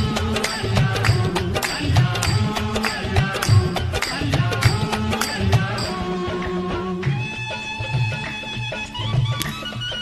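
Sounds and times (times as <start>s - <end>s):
instrumental backing track: 0.0s - 10.0s.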